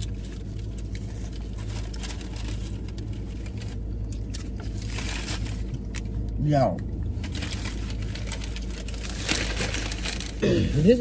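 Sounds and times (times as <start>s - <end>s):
paper wrapper rustling: 0.0s - 6.3s, 7.1s - 11.0s
car engine hum inside cabin: 0.0s - 11.0s.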